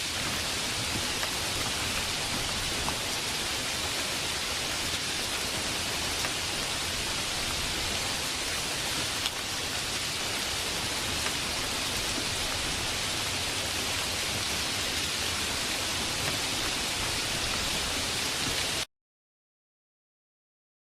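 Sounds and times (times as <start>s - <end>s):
heavy rain: 0.0s - 18.9s.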